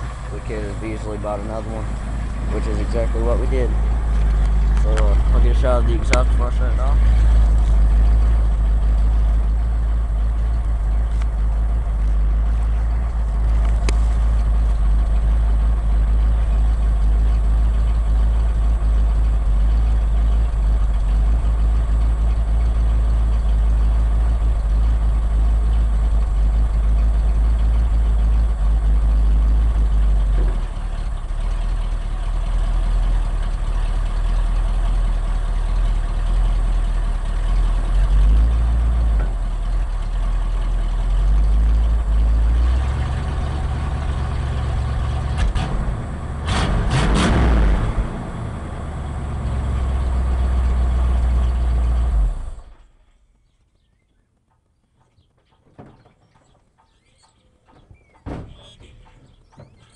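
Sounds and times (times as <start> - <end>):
truck exhaust idling: 0.0 - 53.4.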